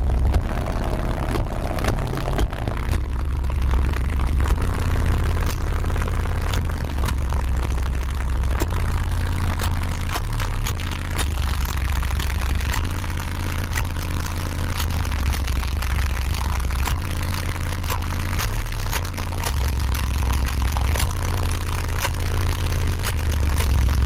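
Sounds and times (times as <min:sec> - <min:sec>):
car subwoofer deep bass: 0:00.0 - 0:24.0
clicks and rattles: 0:00.0 - 0:24.0.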